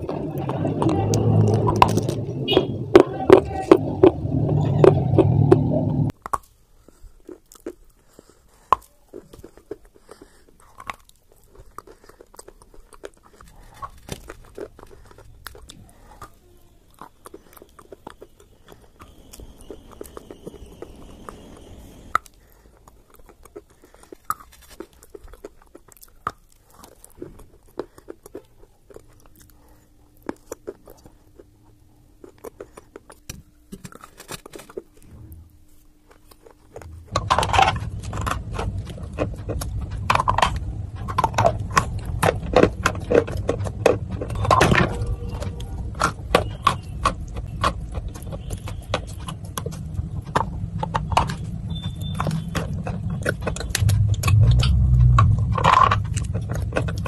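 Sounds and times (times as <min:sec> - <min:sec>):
crunching and chewing clay: 0:00.0 - 0:57.0.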